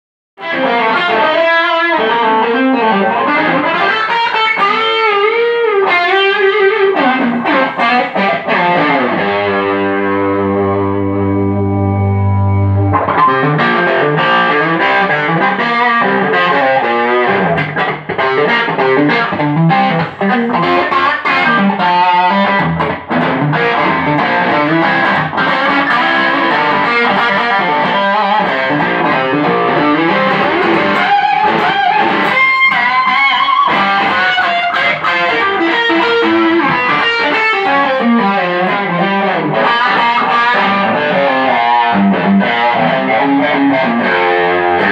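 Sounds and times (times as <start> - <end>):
distorted electric guitar riffs: 0.4 - 44.9.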